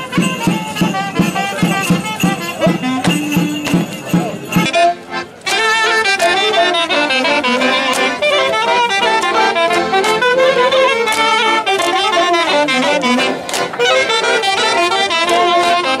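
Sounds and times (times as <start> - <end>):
fast folk dance music: 0.0 - 16.0.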